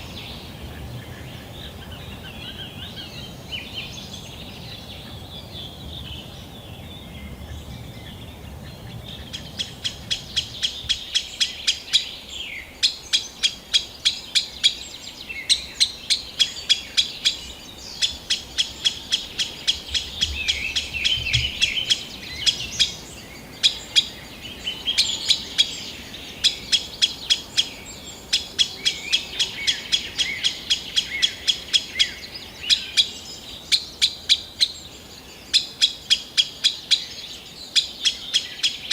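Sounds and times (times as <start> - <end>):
faint birdsong: 0.0 - 38.9.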